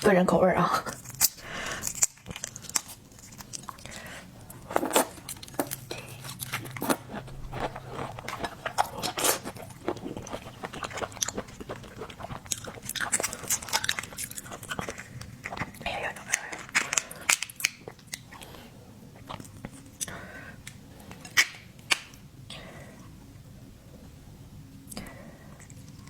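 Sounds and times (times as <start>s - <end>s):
person chewing with crunches: 0.8s - 23.1s, 24.8s - 26.0s.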